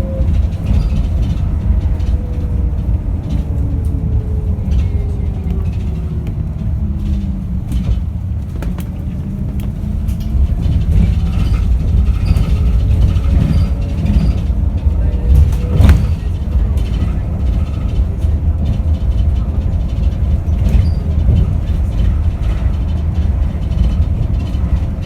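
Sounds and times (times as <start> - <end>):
bus rumbling: 0.0 - 25.0
rattles and clicks: 0.1 - 25.0.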